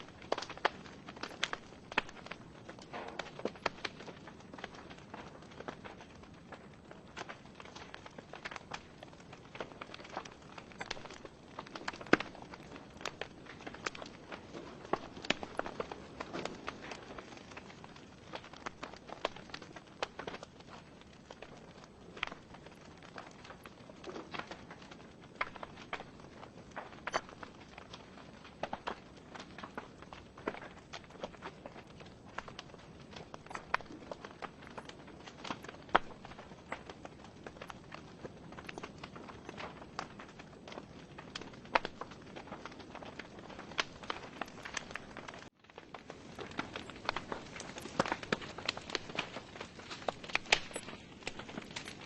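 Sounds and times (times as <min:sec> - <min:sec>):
logs crackling and popping: 0:00.0 - 0:52.0
low hiss of flames: 0:00.0 - 0:52.0.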